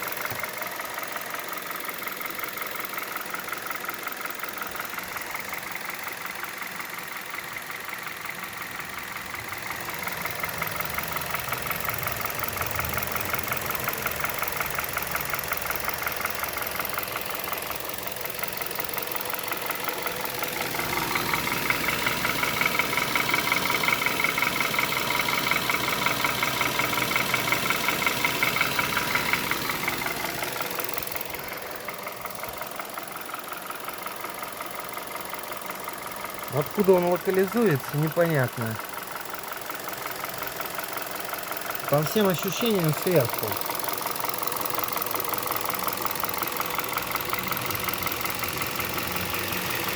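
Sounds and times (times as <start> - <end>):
car engine idling: 0.0 - 49.9
engine knocking: 0.0 - 49.9.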